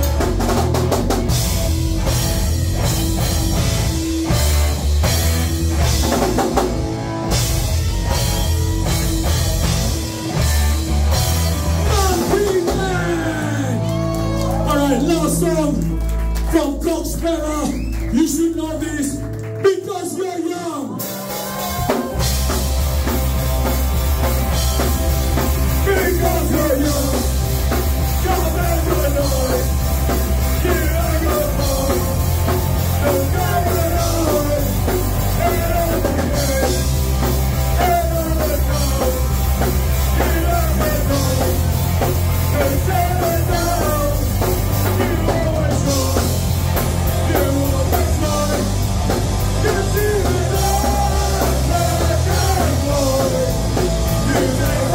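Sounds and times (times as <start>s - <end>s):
live rock band playing loud: 0.0s - 54.9s.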